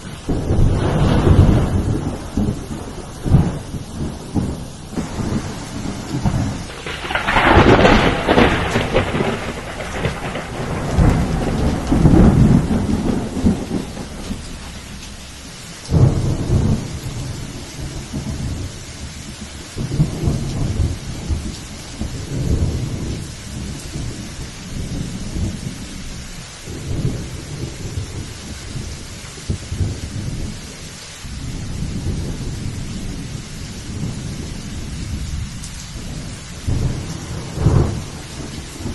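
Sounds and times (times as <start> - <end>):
thunder: 0.0 - 15.2, 15.8 - 30.6, 31.4 - 38.9
steady rain falling: 0.0 - 38.9.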